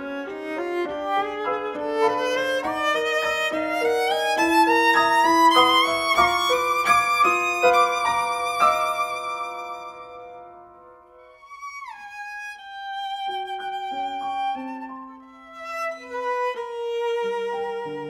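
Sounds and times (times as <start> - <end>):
piano chords: 0.0 - 11.8, 12.8 - 18.0
viola playing: 0.0 - 18.0.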